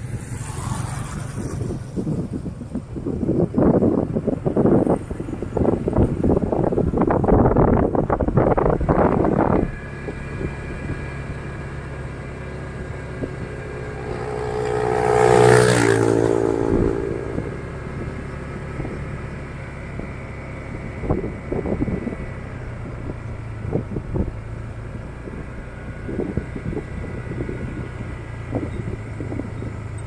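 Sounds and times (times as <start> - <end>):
motorcycle engine running: 0.0 - 30.0
vehicle passing by: 0.0 - 30.0
wind buffeting microphone: 0.0 - 30.0.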